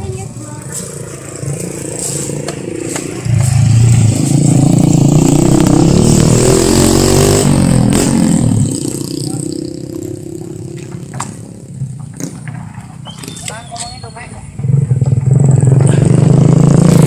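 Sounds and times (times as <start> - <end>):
motorcycle passing by: 0.0 - 12.4, 14.4 - 17.0.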